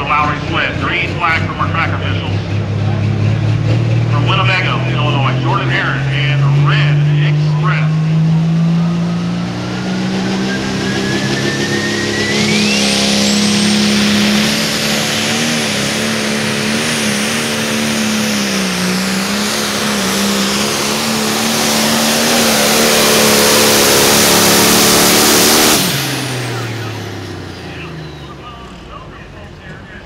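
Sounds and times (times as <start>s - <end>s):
diesel engine at full throttle: 0.0s - 30.0s
turbo whine: 4.1s - 29.9s.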